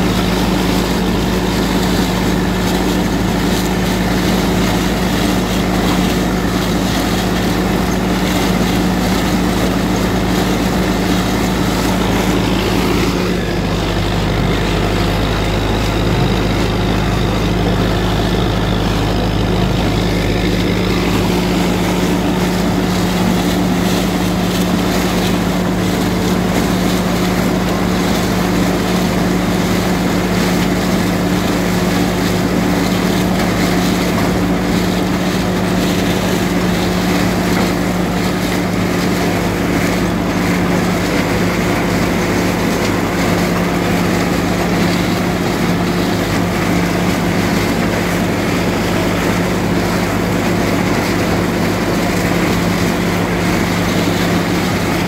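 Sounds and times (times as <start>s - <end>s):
corn picker machinery noise: 0.0s - 55.0s
tractor diesel engine under load: 0.0s - 55.0s.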